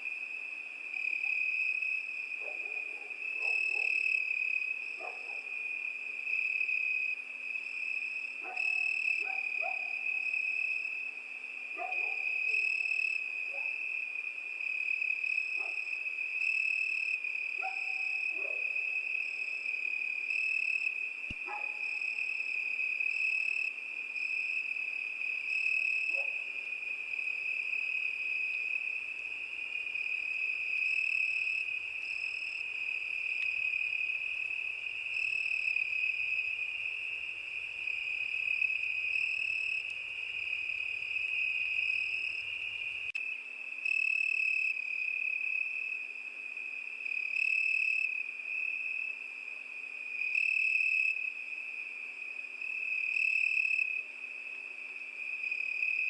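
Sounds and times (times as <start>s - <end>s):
crickets trilling: 0.1s - 54.5s.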